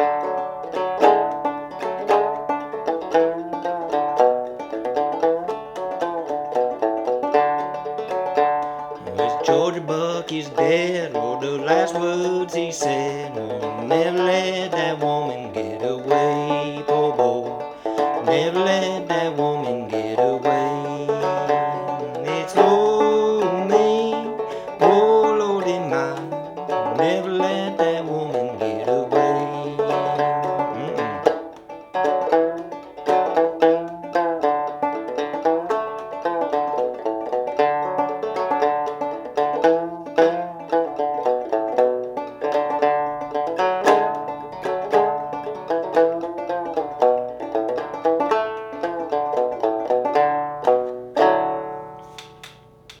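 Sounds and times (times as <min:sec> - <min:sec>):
banjo strum ringing out: 0:00.0 - 0:52.9
banjo picking: 0:00.0 - 0:53.0.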